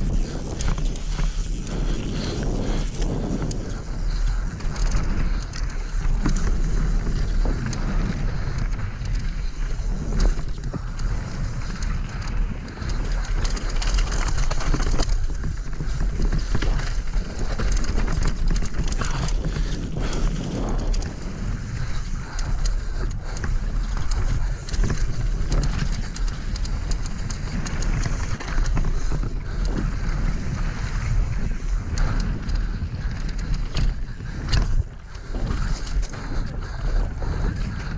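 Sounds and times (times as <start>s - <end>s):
bike rattling and knocking: 0.0s - 37.9s
tyres rolling over gravel and rocks: 0.0s - 37.9s
wind buffeting microphone: 0.0s - 37.9s.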